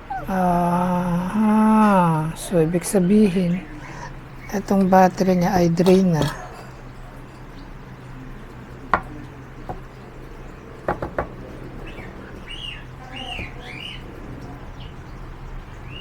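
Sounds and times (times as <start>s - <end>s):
bird chirping: 0.0s - 16.0s
low steady hum: 0.0s - 16.0s.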